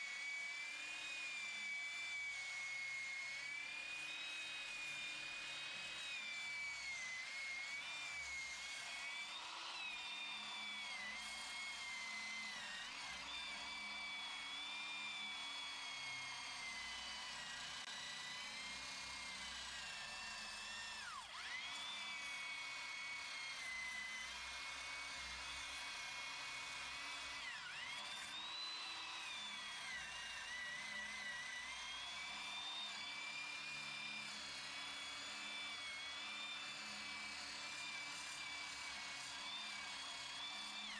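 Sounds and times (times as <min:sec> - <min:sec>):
electric drill whining: 0:00.0 - 0:40.9.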